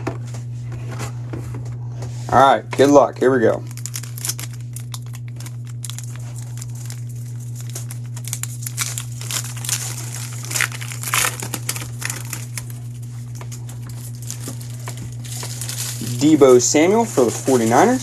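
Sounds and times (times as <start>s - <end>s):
steady low hum: 0.0s - 18.0s
foil wrapper tearing and crinkling: 3.4s - 18.0s.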